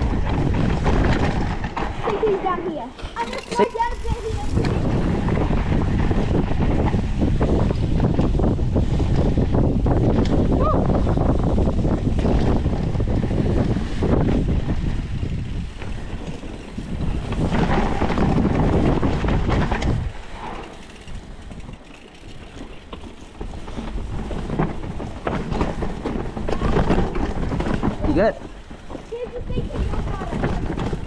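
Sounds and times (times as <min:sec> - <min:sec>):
bike rattling over rocks: 0:00.0 - 0:31.0
tyres rolling on dirt trail: 0:00.0 - 0:31.0
wind noise: 0:00.0 - 0:31.0.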